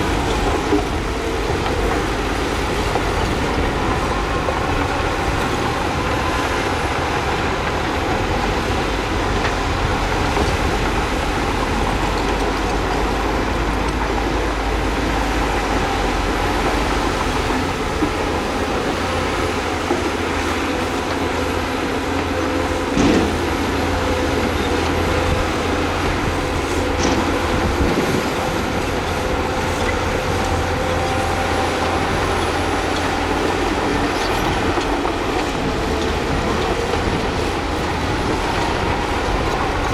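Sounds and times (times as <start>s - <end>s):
bulldozer diesel engine running: 0.0s - 39.9s
steel tracks clanking and squealing: 0.0s - 39.9s.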